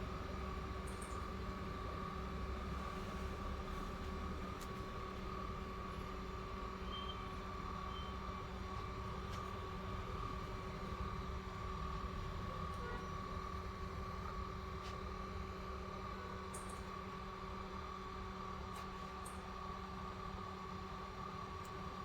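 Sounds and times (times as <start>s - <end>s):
electrical hum with high whine: 0.0s - 22.0s.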